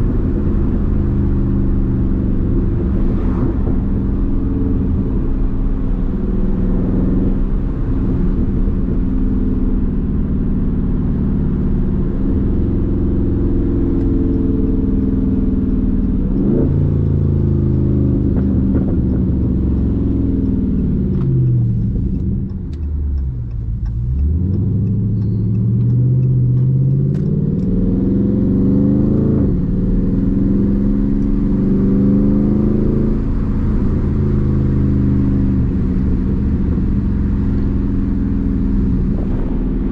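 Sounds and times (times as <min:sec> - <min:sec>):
car engine slowing and accelerating: 0:00.0 - 0:39.9.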